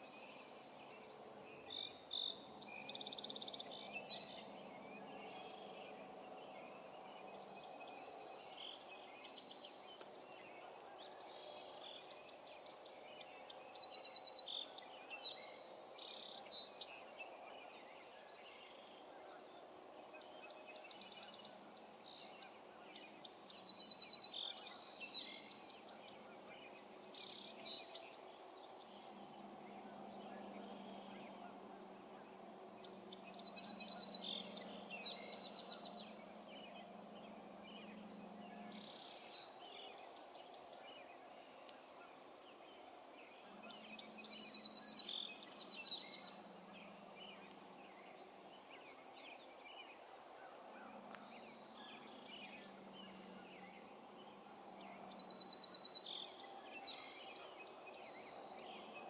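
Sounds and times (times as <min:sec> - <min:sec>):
faint low hum: 0:00.0 - 0:59.0
songbird singing: 0:00.0 - 0:59.0.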